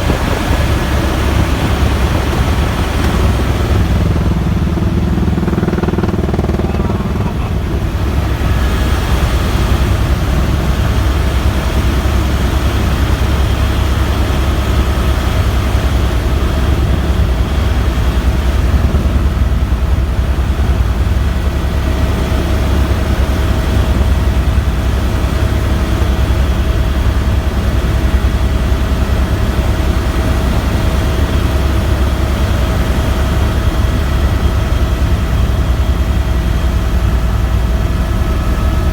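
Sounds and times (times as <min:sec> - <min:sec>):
constant engine whine: 0:00.0 - 0:38.9
helicopter rotor beat: 0:00.0 - 0:38.9.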